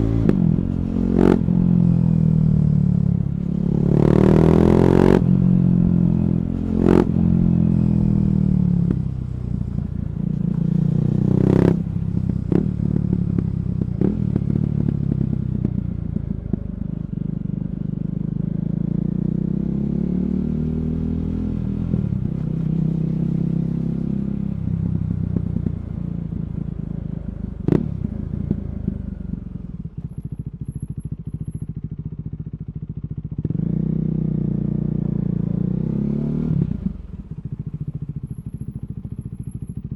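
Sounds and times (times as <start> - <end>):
motorcycle engine revving: 0.0 - 26.0, 27.5 - 39.9.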